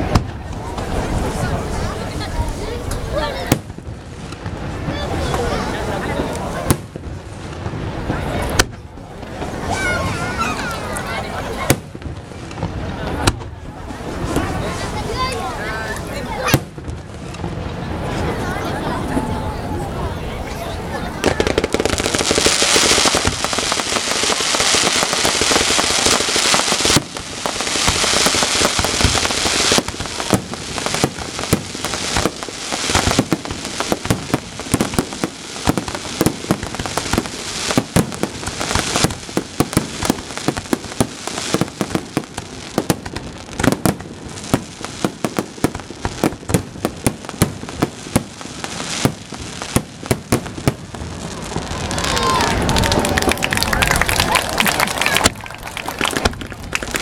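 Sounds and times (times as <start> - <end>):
fireworks popping and banging: 0.0 - 19.4, 21.1 - 57.0
fireworks crackling hiss: 0.0 - 57.0.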